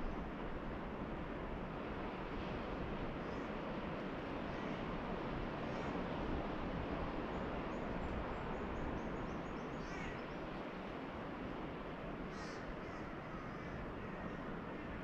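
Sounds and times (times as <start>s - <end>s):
ocean surf: 0.0s - 15.0s.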